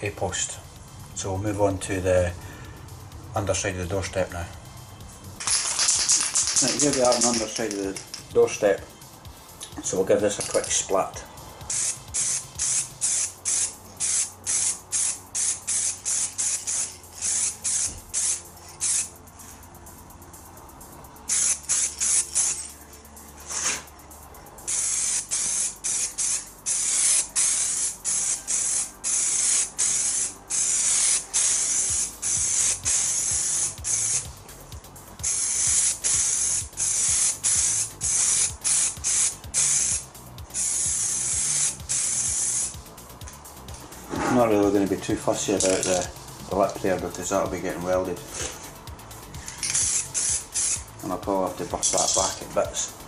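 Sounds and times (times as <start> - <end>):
aerosol spray can spraying: 5.4 - 8.6, 11.6 - 24.0, 24.7 - 53.0.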